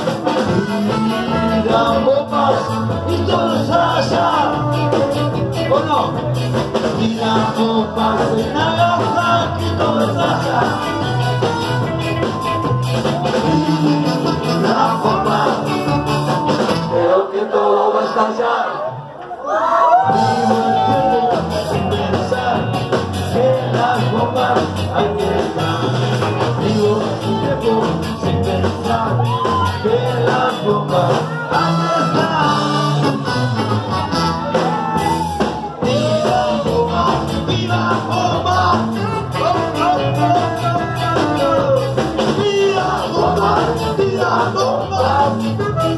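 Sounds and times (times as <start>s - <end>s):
live punk band playing: 0.0s - 18.2s, 19.1s - 45.9s.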